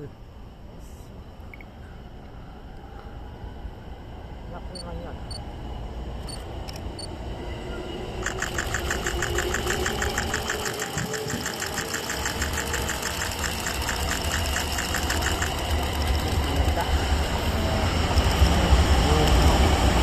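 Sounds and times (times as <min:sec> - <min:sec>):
train rumbling: 0:02.2 - 0:20.0.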